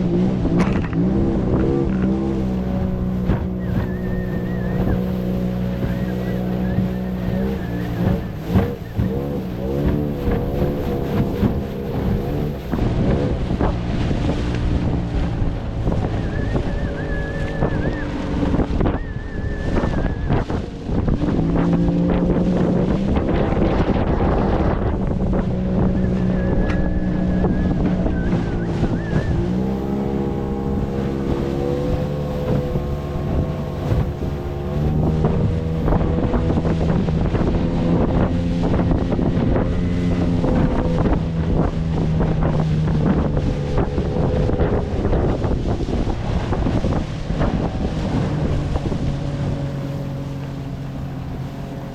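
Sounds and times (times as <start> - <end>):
small boat motor running: 0.0 - 51.9
water splashing: 0.0 - 51.9
wind buffeting microphone: 0.0 - 51.9.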